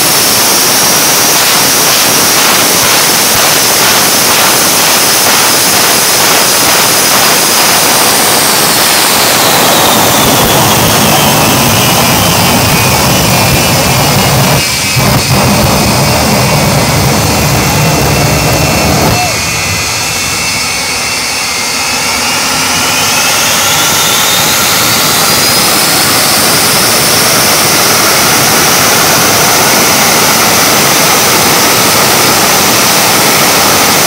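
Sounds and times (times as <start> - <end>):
high whistling whine: 0.0 - 34.0
jet engine roaring: 0.0 - 34.0.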